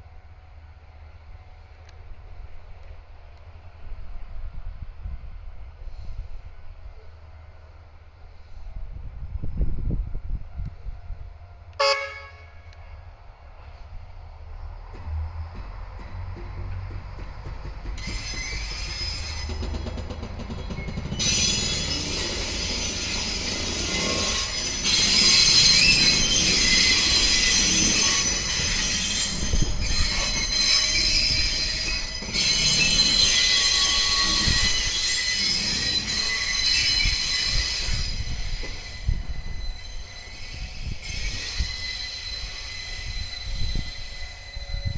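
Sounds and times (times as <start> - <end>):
train wheels squealing on rails: 5.6 - 44.9.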